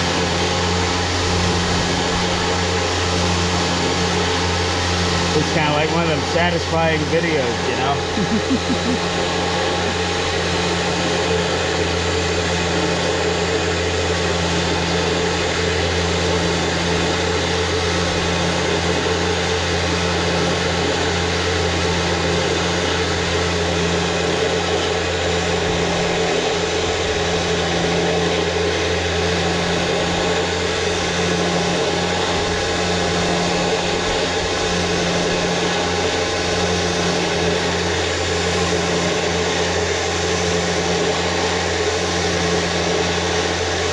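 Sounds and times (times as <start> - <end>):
electric winch motor humming: 0.0 - 43.9.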